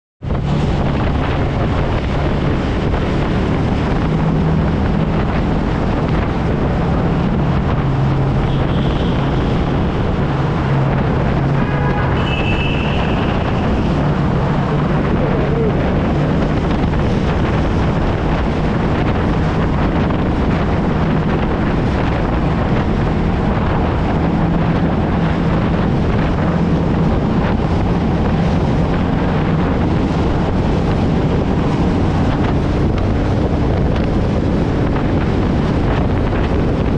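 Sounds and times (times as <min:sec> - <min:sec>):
road noise in a tunnel: 0:00.2 - 0:36.9
wind rushing over microphone: 0:00.2 - 0:36.9.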